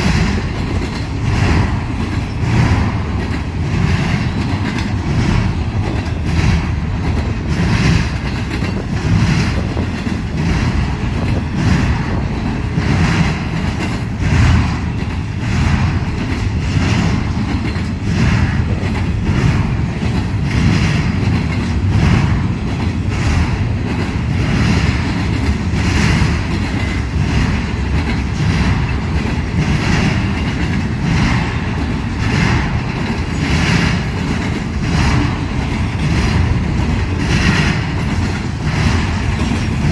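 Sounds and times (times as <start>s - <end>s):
train low rumble: 0.0s - 39.9s
train wheels clacking on rails: 0.0s - 39.9s.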